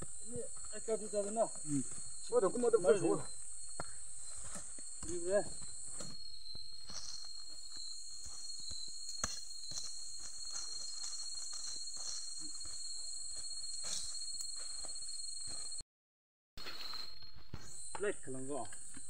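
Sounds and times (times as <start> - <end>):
night insects trilling: 0.0 - 15.8, 16.6 - 19.0.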